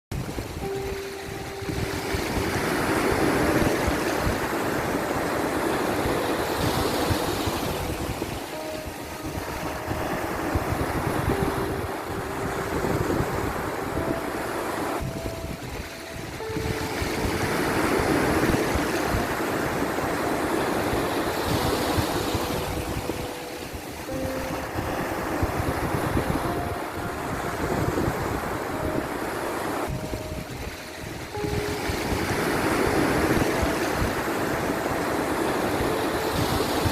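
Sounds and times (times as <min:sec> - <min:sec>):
gentle music: 0:00.1 - 0:36.9
ocean surf washing: 0:00.1 - 0:36.9.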